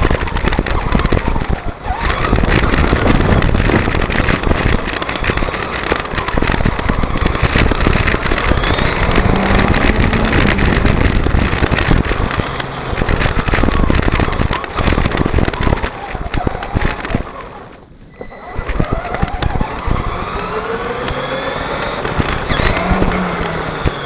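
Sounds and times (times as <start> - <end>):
electric motor and gears whining: 0.0 - 17.8, 18.4 - 24.0
tyres crunching on gravel: 0.0 - 17.8, 21.7 - 24.0.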